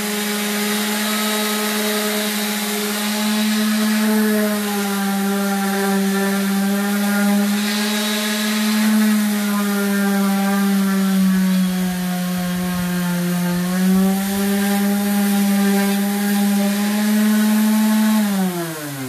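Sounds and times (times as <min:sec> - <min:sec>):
orbital sander on wood: 0:00.0 - 0:19.0.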